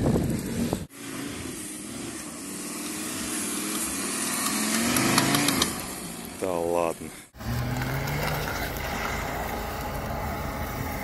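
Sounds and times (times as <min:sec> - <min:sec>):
car engine revving under load: 0:00.8 - 0:06.4, 0:07.0 - 0:11.0.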